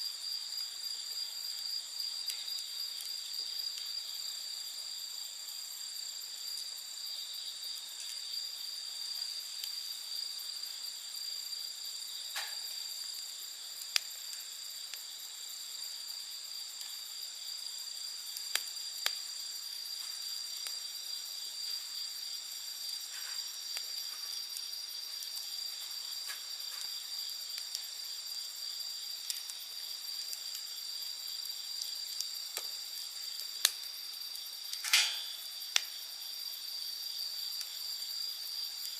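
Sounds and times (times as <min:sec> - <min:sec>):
night insects chirping: 0:00.0 - 0:38.9
campfire popping: 0:00.1 - 0:38.9.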